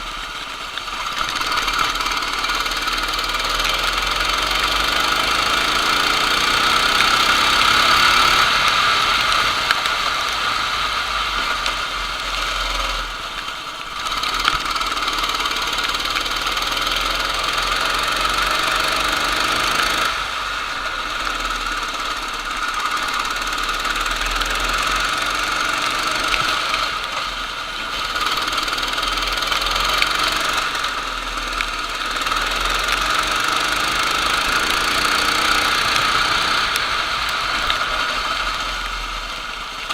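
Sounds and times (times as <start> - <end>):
kart engine at high revs: 0.0 - 39.9.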